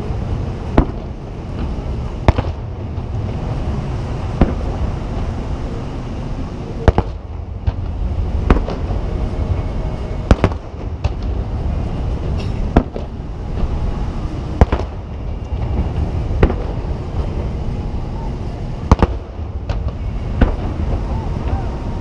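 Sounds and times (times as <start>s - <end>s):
fireworks booming: 0.0s - 22.0s
low background noise: 0.0s - 22.0s.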